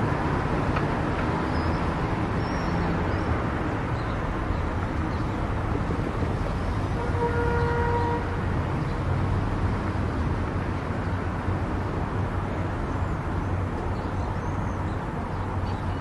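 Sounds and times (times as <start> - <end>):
car driving on highway: 0.0 - 16.0.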